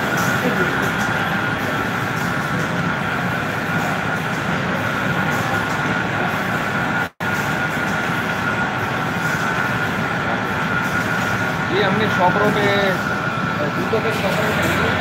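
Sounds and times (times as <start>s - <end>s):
factory machine noise: 0.0s - 15.0s
thin steady whine: 0.0s - 15.0s.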